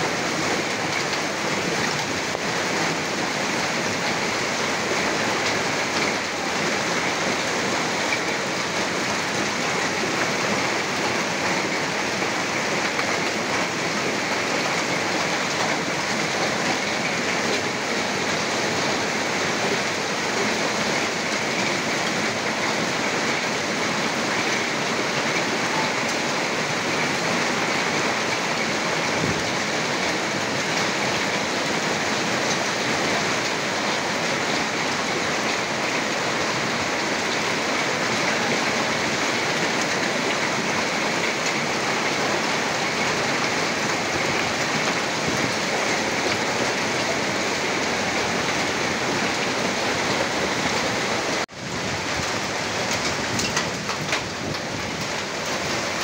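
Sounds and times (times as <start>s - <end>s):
heavy rain and hail on metal roof: 0.0s - 56.0s.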